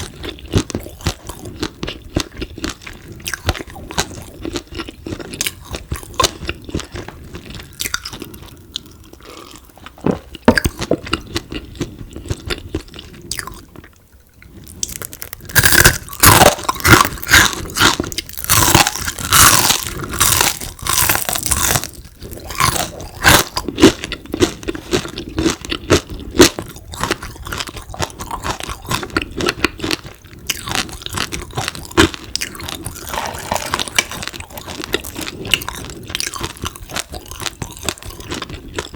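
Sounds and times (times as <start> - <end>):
crunching and chewing: 0.0 - 38.9.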